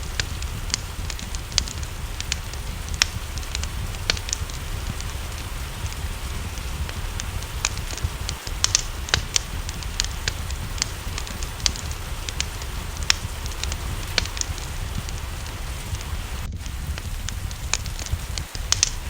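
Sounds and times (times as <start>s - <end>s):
low rumble: 0.0s - 19.0s
rain hissing: 0.0s - 19.0s
wood fire crackling: 0.0s - 19.0s.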